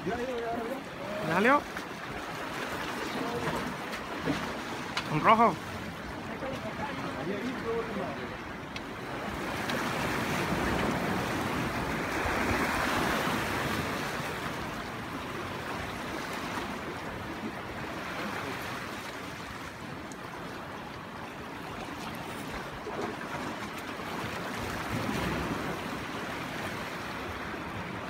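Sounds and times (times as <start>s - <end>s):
waves washing on rocky shore: 0.0s - 20.7s, 21.7s - 28.0s.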